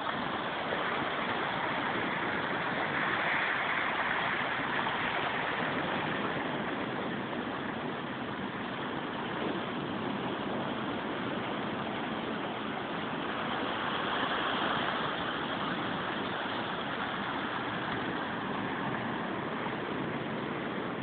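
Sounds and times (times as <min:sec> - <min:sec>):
heavy surf: 0:00.0 - 0:21.0
strong wind rushing: 0:00.0 - 0:21.0.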